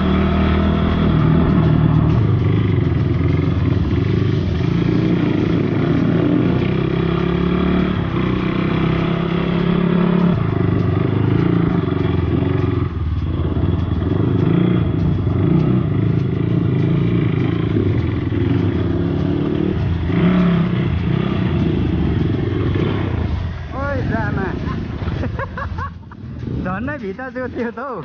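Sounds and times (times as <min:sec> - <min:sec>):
bike rattling over rough ground: 0:00.0 - 0:28.0
motorcycle engine revving: 0:00.0 - 0:28.0.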